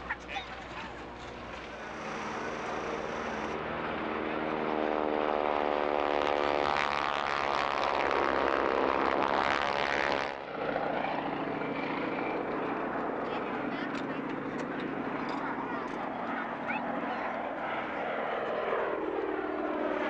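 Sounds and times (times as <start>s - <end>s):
propeller plane passing: 0.0s - 20.0s.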